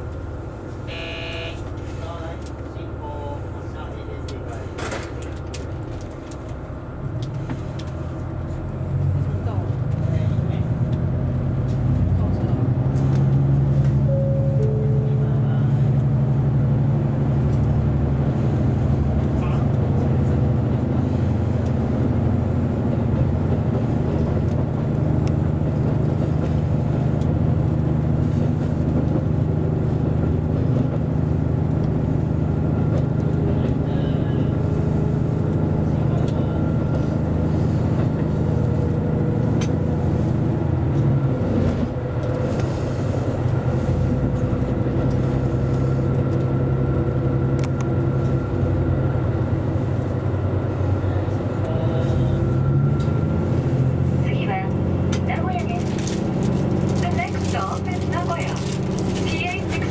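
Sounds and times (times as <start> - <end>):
diesel train engine running: 0.0 - 59.9
train wheels on rails: 7.2 - 59.9.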